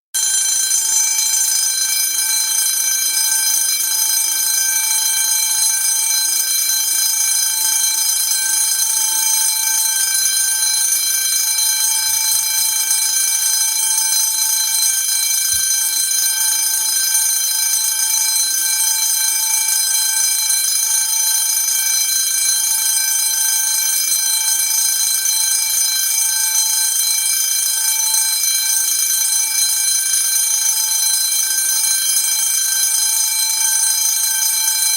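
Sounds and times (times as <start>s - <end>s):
fire alarm bell ringing: 0.1s - 34.9s.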